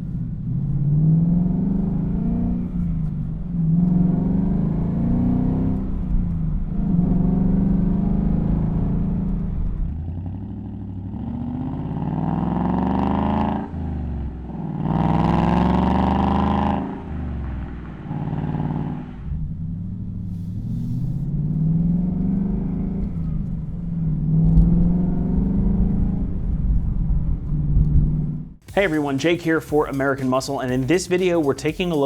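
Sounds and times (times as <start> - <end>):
car engine revving: 0.0 - 30.7.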